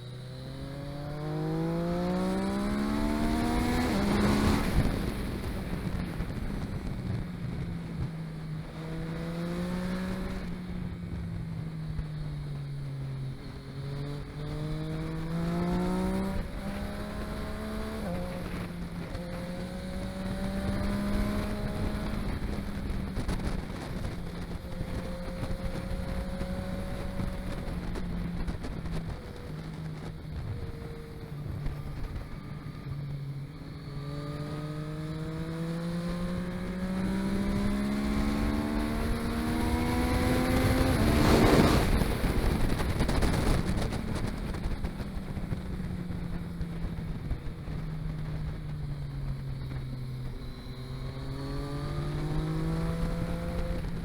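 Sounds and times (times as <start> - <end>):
vehicle engine accelerating through gears: 0.0 - 54.0.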